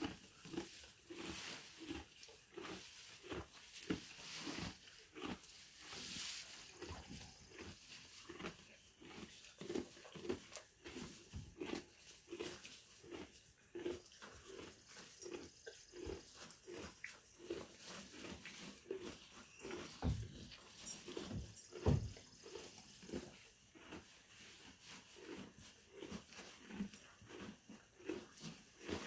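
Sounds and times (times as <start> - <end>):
donkey chewing hay: 0.0 - 29.0.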